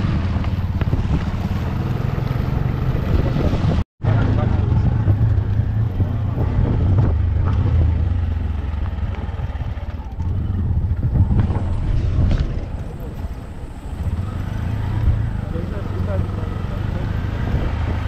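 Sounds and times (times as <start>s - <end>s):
auto-rickshaw engine droning: 0.0s - 18.0s
road noise: 0.0s - 18.0s.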